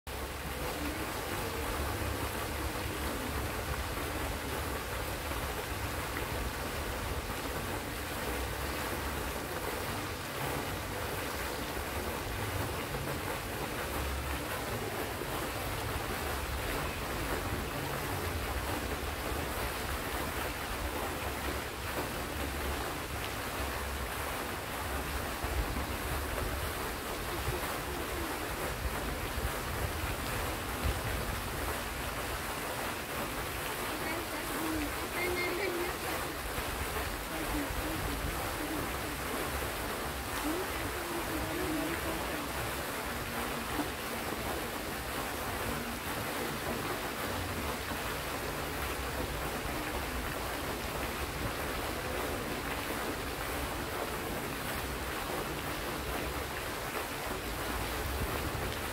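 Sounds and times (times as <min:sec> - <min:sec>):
fountain water splashing: 0:00.1 - 0:58.9.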